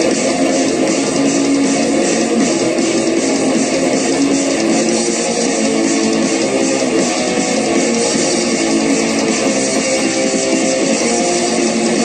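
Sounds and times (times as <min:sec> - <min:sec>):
guitar music: 0:00.0 - 0:12.0.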